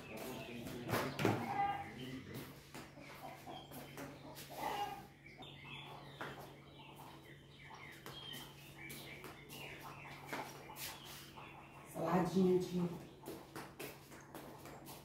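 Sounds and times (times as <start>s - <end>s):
bird chirps: 0.0s - 13.4s.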